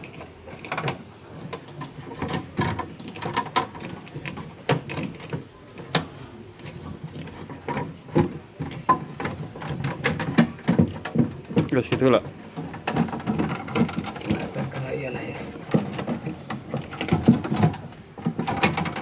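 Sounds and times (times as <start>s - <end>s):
tools clicking and knocking: 0.0s - 14.8s, 15.4s - 19.0s.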